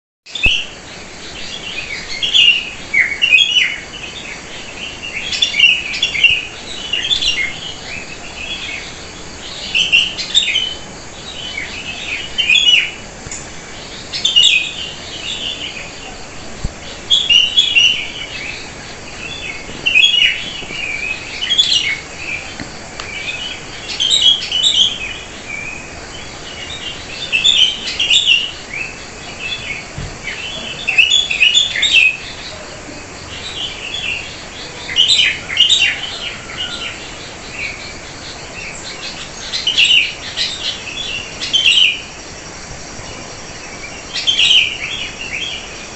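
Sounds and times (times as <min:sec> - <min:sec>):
songbirds chirping: 0:00.2 - 0:45.9
faint steady hiss: 0:00.3 - 0:45.9.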